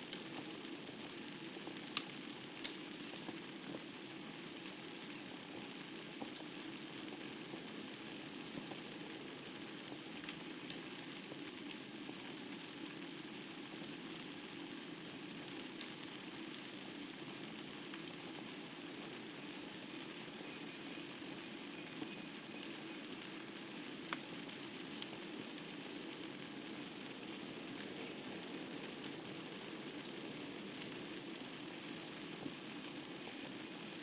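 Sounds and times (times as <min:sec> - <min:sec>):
wood fire burning: 0:00.0 - 0:34.0.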